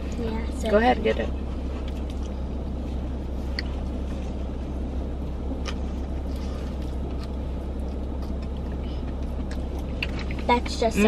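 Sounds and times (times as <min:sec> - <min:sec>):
car cabin hum: 0:00.0 - 0:11.0.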